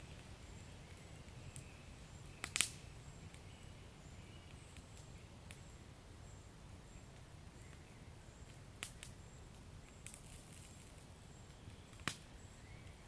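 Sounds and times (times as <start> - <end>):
wood fire crackling softly: 0.0 - 13.0.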